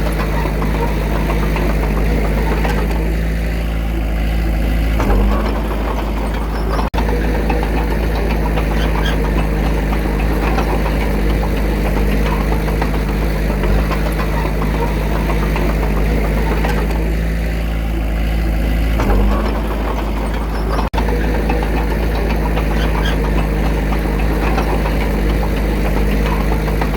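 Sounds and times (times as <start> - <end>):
diesel engine knocking: 0.0 - 26.9.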